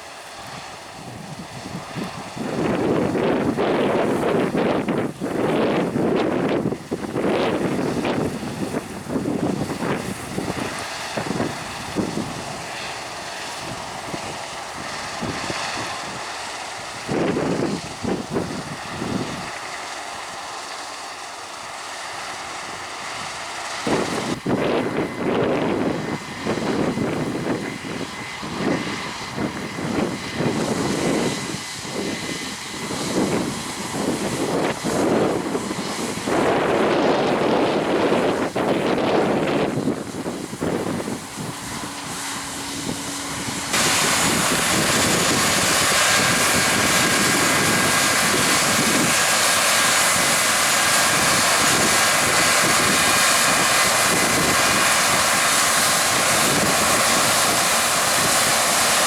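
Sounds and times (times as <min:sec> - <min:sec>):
wind on microphone: 0:00.0 - 0:19.6, 0:23.0 - 0:59.0
machinery engine droning: 0:00.0 - 0:59.0.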